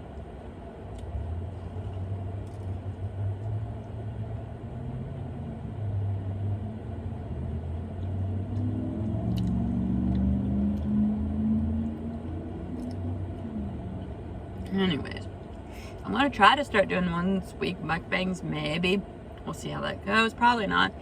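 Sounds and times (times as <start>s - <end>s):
low steady rumble: 0.0s - 21.0s
pitched hum: 0.0s - 21.0s.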